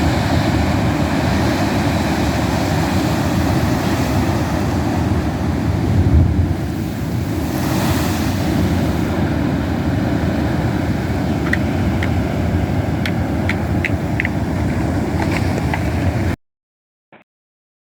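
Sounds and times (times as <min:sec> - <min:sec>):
ocean surf breaking on cliffs: 0:00.0 - 0:16.4
wind buffeting microphone: 0:00.0 - 0:16.4.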